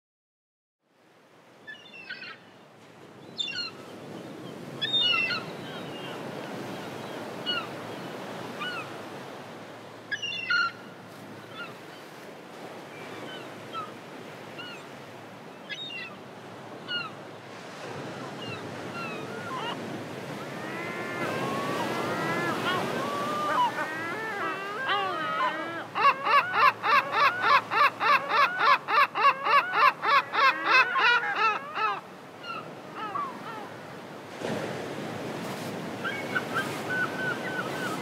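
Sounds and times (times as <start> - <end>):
surf washing on shore: 2.6 - 10.1, 10.7 - 26.0, 30.2 - 38.0.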